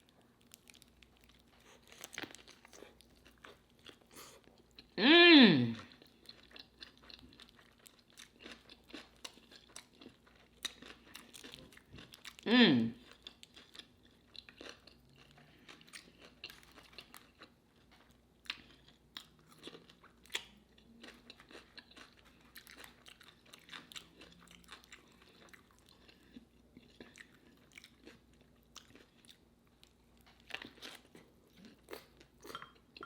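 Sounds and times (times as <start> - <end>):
person chewing crunchy food: 0.0 - 5.0, 5.8 - 33.0.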